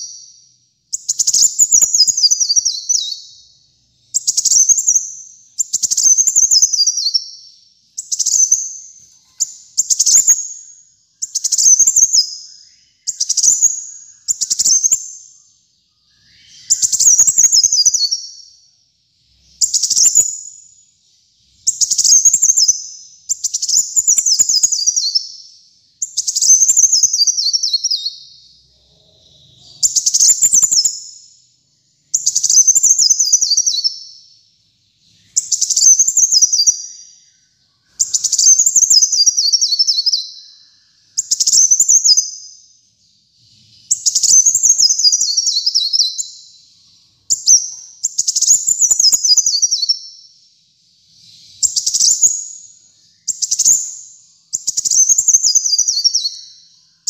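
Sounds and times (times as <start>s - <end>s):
sunbird singing high-pitched phrase: 0.0s - 57.0s.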